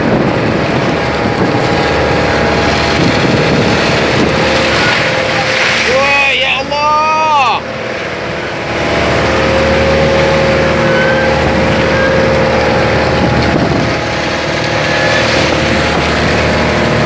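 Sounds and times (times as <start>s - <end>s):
boat engine running: 0.0s - 17.0s
wind and water hiss: 0.0s - 17.0s.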